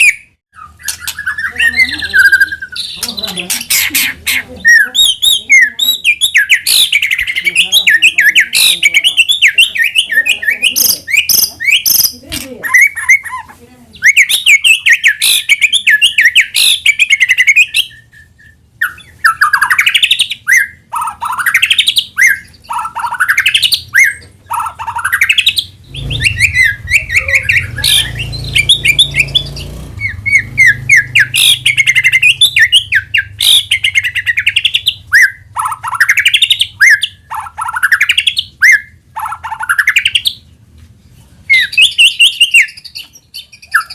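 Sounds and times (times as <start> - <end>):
bird chattering and whistling: 0.0 - 40.4, 41.5 - 43.9.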